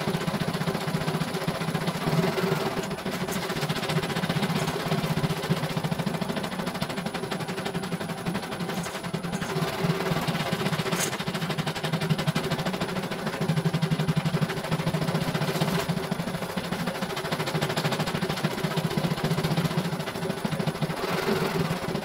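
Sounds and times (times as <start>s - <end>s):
embroidery machine stitching: 0.0s - 22.0s.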